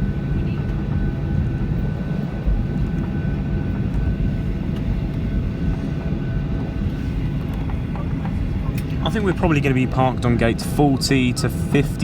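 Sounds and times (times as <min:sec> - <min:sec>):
high engine whine: 0:00.0 - 0:12.0
jet engines idling rumble: 0:00.0 - 0:12.0.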